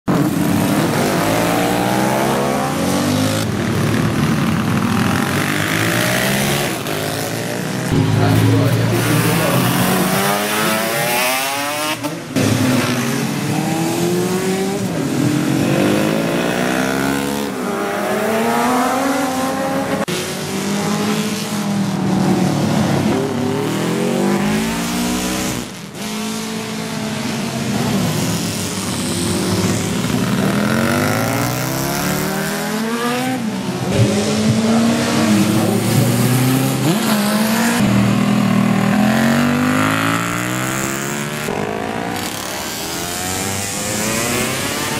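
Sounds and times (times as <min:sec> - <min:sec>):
racing motorcycles passing: 0:00.1 - 0:44.9.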